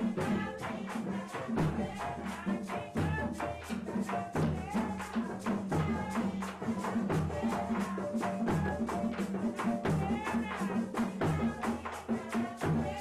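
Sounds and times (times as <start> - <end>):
hand drums: 0.0 - 13.0
marimba: 0.0 - 13.0
shakers: 0.0 - 13.0.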